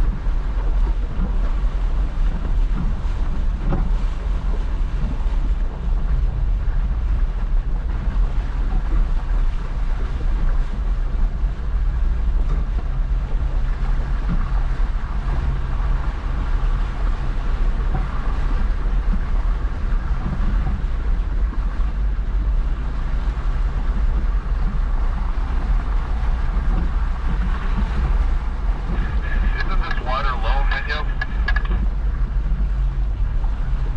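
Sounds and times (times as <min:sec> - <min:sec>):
engine rumble: 0:00.0 - 0:33.9
wind noise on microphone: 0:00.0 - 0:33.9.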